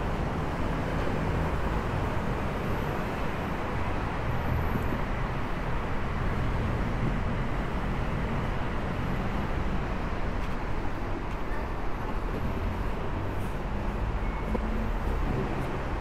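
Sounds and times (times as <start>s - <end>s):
city road traffic rumble: 0.0s - 16.0s.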